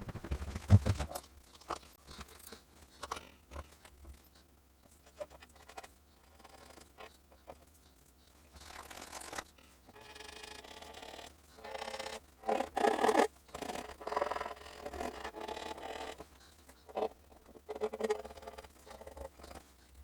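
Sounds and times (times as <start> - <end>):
scratching and scraping on model: 0.2 - 20.0.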